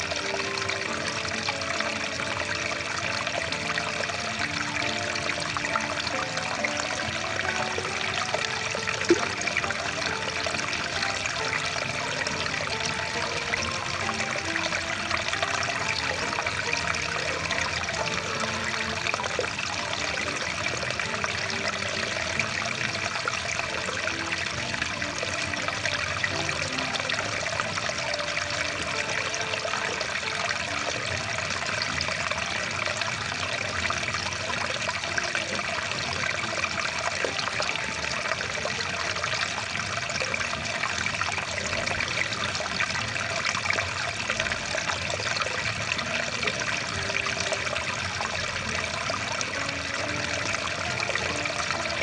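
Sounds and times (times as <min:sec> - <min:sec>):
rushing water stream: 0:00.0 - 0:52.0.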